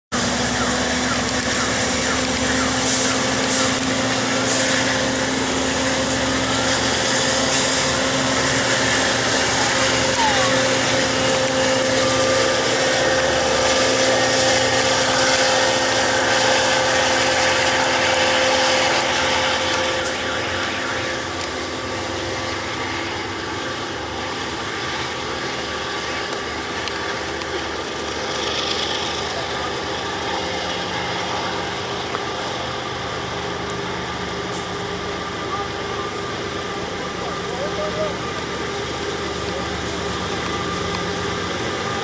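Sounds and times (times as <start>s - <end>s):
trains humming and rumbling: 0.1s - 42.0s.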